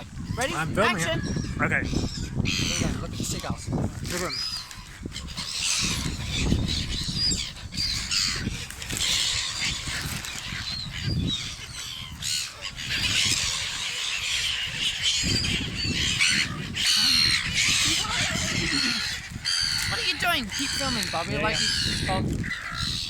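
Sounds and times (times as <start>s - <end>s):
seagulls squawking: 0.0s - 23.0s.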